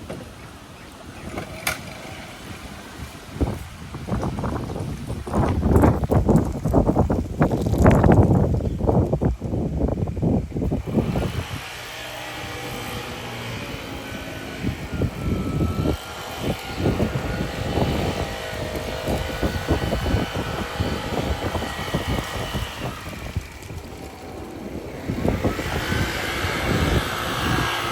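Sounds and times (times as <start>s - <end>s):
lawn mower running: 0.0s - 27.9s.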